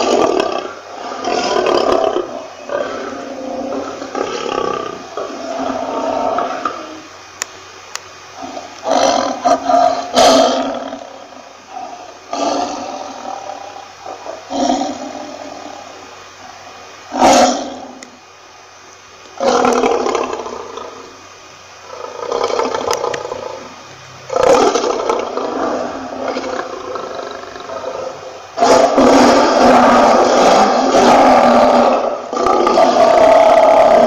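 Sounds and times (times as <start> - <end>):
lion roaring: 0.0 - 7.1, 8.4 - 16.0, 17.1 - 18.0, 19.4 - 21.1, 21.8 - 23.7, 24.3 - 34.0.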